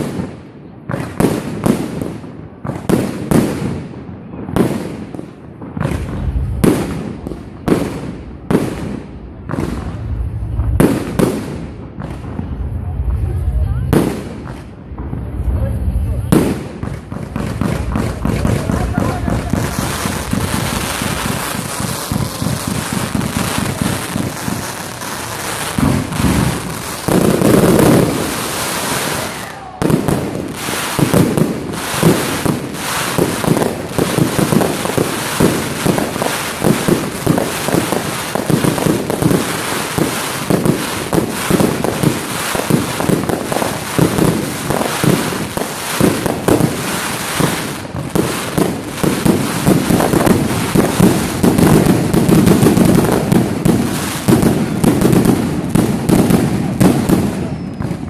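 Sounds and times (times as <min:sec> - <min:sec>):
fireworks bursting with crackling: 0:00.0 - 0:58.0
heavy low firework burst: 0:00.0 - 0:58.0
rapid firework barrage: 0:00.0 - 0:58.0.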